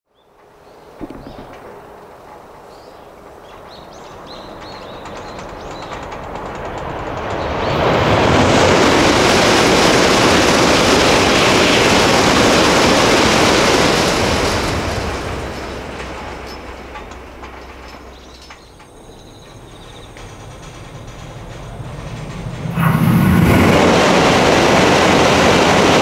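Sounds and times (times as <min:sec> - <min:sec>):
train rushing roar: 0:00.3 - 0:26.0.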